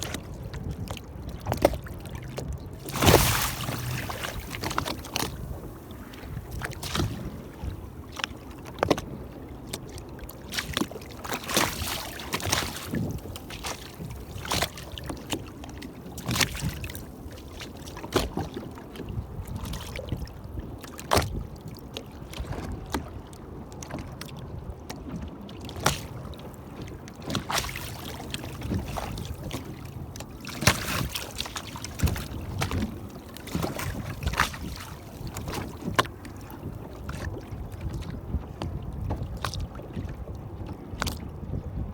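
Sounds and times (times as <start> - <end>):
steady wash of water: 0.0 - 20.2, 25.1 - 41.9
waves slapping boat hull: 0.0 - 41.9.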